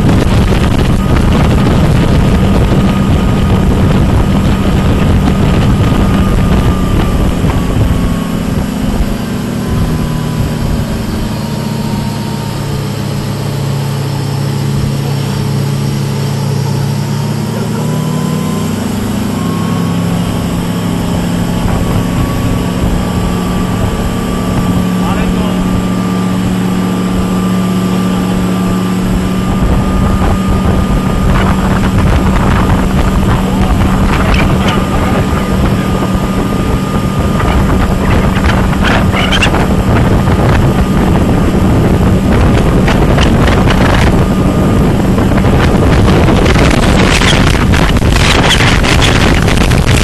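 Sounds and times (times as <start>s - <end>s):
churning wake rushing: 0.0s - 50.0s
motorboat engine humming: 0.0s - 50.0s
wind on microphone: 0.0s - 50.0s.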